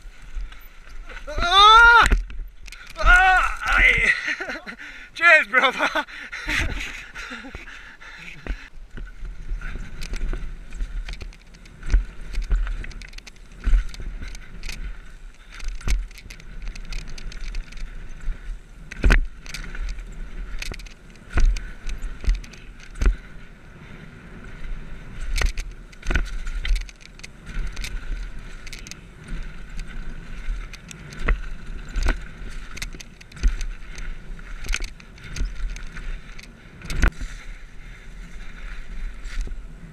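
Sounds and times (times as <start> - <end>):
bike knocking and rattling: 0.0 - 4.9, 5.7 - 39.9
tyres hissing on gravel trail: 0.0 - 39.9
wind rumble on microphone: 6.4 - 39.9.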